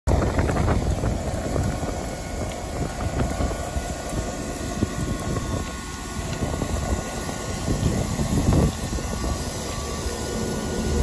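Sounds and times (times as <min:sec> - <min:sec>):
locomotive low rumble: 0:00.1 - 0:11.0
wind buffeting microphone: 0:00.1 - 0:11.0.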